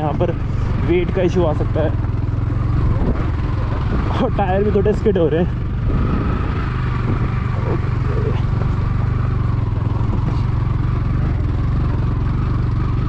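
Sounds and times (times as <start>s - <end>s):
motorcycle engine pulling in low gear: 0.0s - 13.0s.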